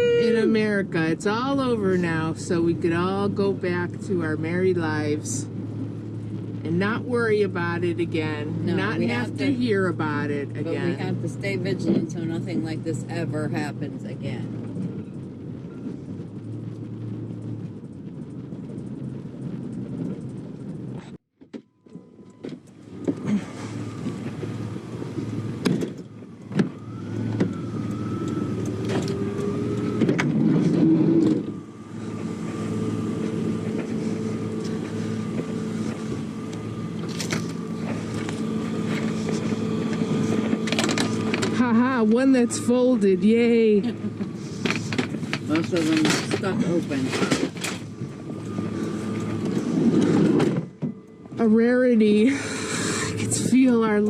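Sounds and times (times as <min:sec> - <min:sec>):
van engine and road noise: 0:00.0 - 0:54.0.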